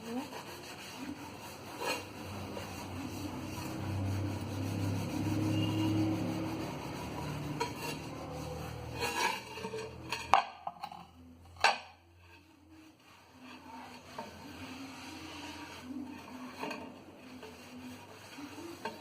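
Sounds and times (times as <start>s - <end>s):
scrubbing and rubbing: 0.0s - 19.0s.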